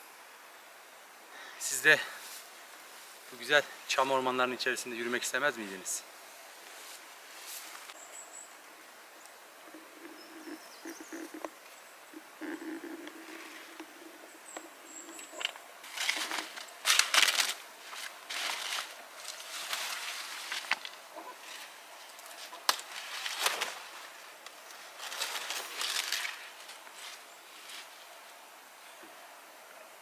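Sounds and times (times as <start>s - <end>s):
leaves and undergrowth rustling: 1.3s - 29.3s.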